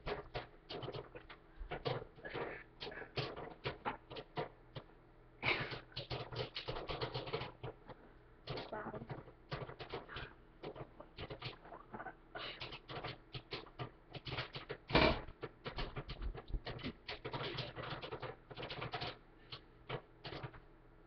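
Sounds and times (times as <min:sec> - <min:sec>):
popcorn popping: 0:00.0 - 0:20.7.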